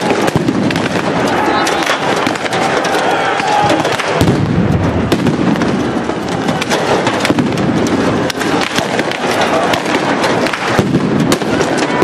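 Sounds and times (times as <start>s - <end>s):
deep blast: 0.0s - 12.0s
explosive pops: 0.0s - 12.0s.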